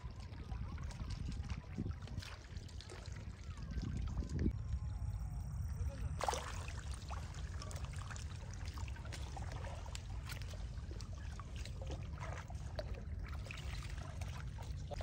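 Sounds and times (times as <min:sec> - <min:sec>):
small splashes and clicks: 0:00.0 - 0:04.6, 0:06.2 - 0:15.0
low steady rumble: 0:00.0 - 0:15.0
water trickling and dripping: 0:00.0 - 0:15.0.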